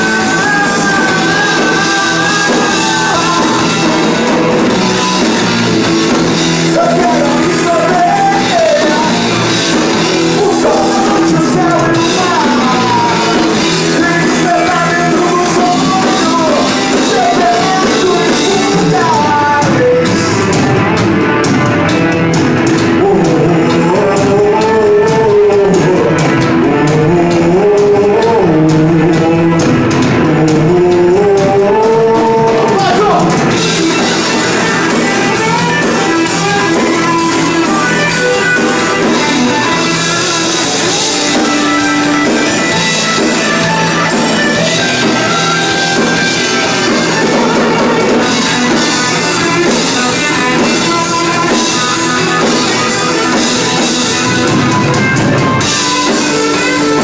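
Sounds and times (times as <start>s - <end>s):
male singer: 0.0s - 21.9s, 22.6s - 54.8s
drum and cymbal hits: 0.0s - 57.0s
rock band playing live: 0.0s - 57.0s.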